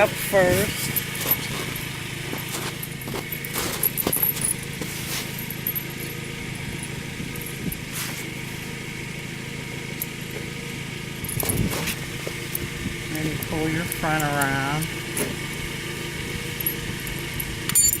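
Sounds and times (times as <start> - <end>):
tire chain links clinking: 0.0 - 8.8, 9.9 - 18.0
car engine idling: 0.0 - 18.0.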